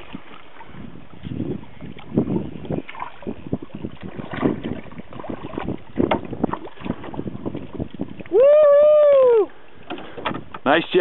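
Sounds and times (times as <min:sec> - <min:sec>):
wind on microphone: 0:00.0 - 0:10.6
water splashing against canoe: 0:00.0 - 0:11.0.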